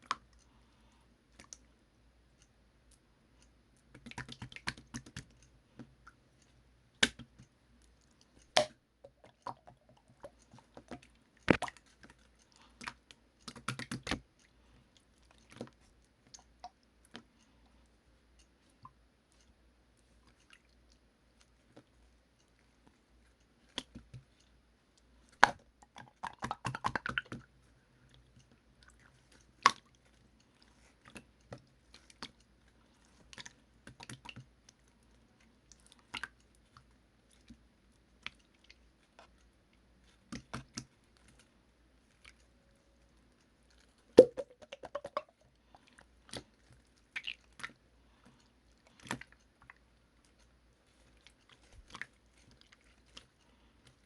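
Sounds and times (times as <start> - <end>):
slime squelching by hand: 0.0 - 54.0.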